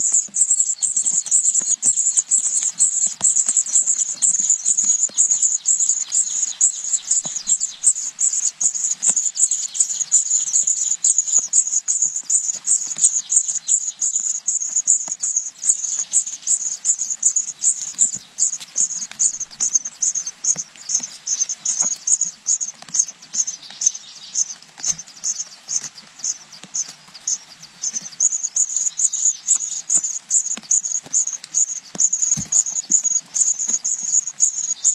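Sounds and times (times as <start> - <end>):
nestling birds begging chirps: 0.0 - 34.9.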